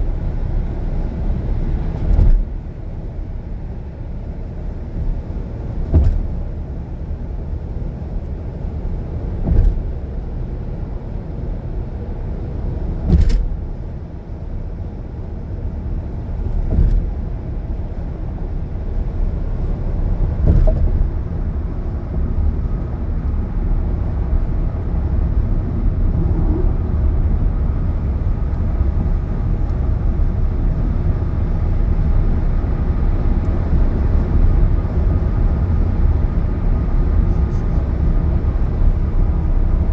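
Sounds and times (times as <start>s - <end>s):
car road noise rumble: 0.0s - 39.9s.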